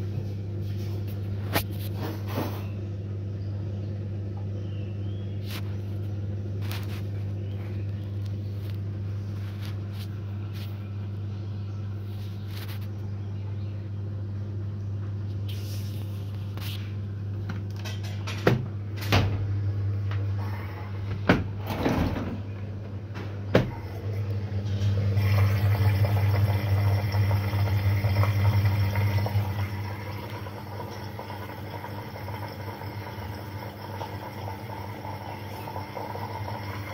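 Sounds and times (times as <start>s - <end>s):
dishwasher motor humming: 0.0s - 12.0s, 12.7s - 36.9s.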